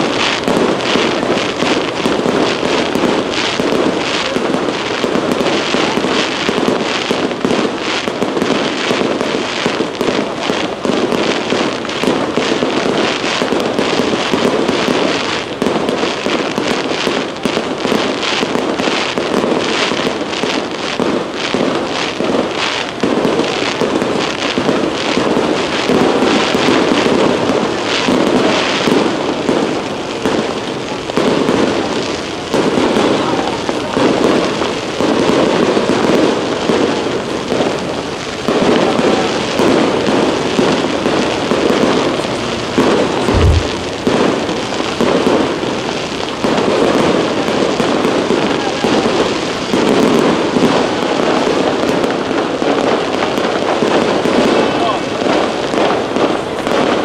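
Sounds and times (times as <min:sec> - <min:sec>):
fireworks bursts and crackles: 0:00.0 - 0:57.0.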